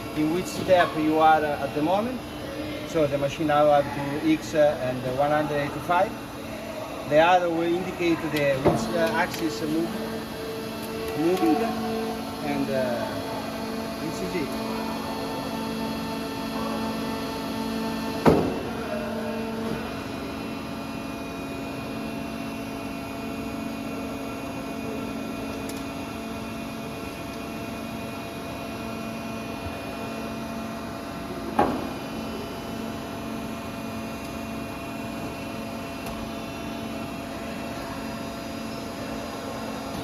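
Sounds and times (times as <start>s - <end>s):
bending machine humming: 0.0s - 40.0s.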